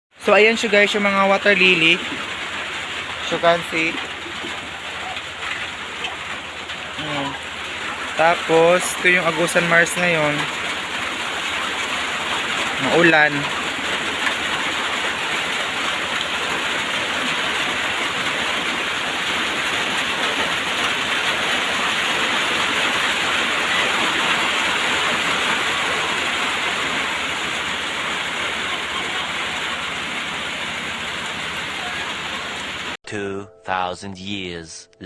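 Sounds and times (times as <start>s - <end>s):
steady rain falling: 0.2s - 33.0s.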